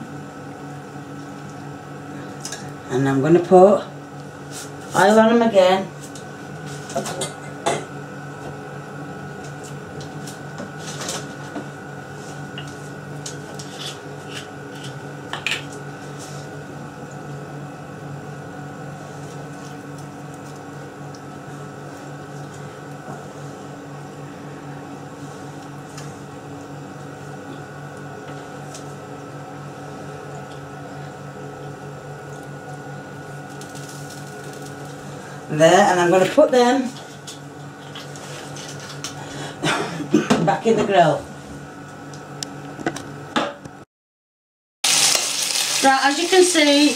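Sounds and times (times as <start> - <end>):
kitchen appliance humming: 0.0 - 43.8, 44.8 - 46.9.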